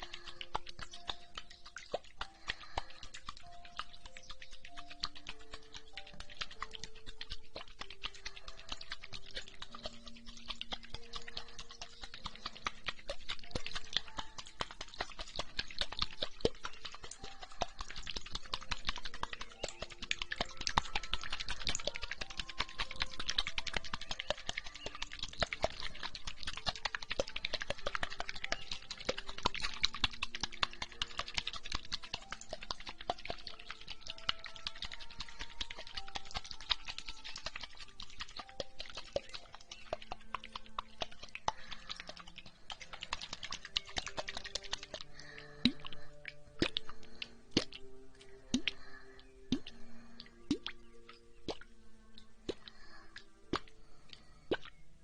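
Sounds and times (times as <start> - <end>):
faint soft music: 0.0 - 55.0
wet sticky crackling: 0.0 - 55.0.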